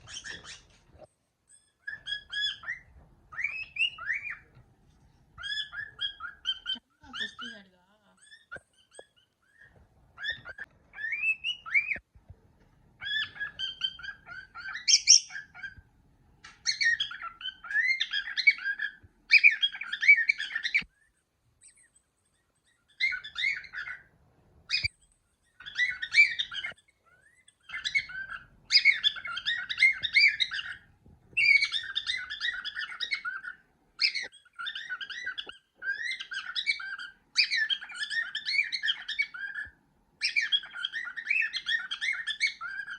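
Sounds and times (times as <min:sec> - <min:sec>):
cockatiel whistling and chattering: 0:00.0 - 0:04.6, 0:05.4 - 0:12.0, 0:13.0 - 0:15.8, 0:16.4 - 0:24.1, 0:24.7 - 0:42.9.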